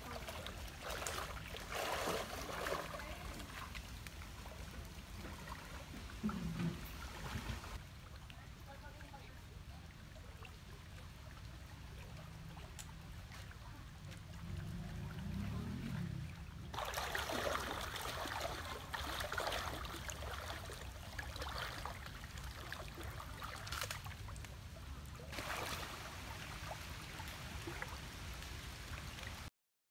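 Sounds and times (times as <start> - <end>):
water splashing around wading legs: 0.0 - 7.8, 10.3 - 29.5
low steady rumble: 0.0 - 29.5.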